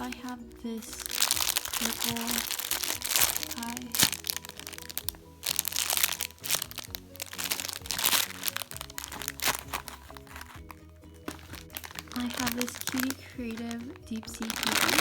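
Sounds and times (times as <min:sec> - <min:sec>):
background music: 0:00.0 - 0:15.0
squishy toy crinkling: 0:00.0 - 0:15.0.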